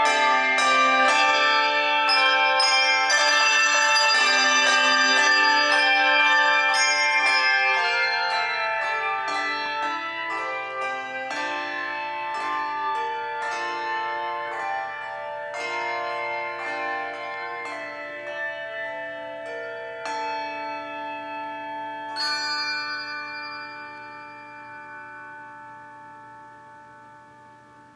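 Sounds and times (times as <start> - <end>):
handbell choir playing: 0.0 - 27.6.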